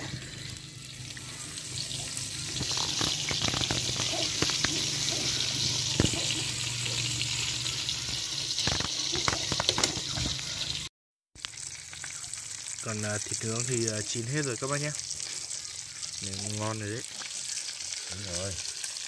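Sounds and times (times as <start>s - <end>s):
food frying in hot oil: 0.0s - 19.0s.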